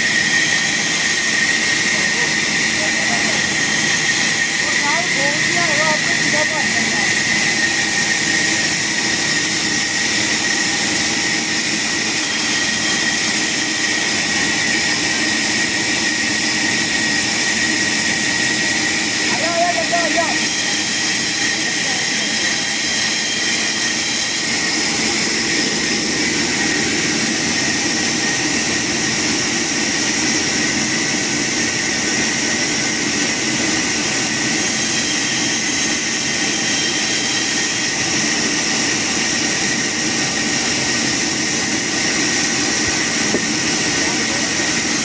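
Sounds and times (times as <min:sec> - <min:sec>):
saw running with high whine: 0:00.0 - 0:45.0.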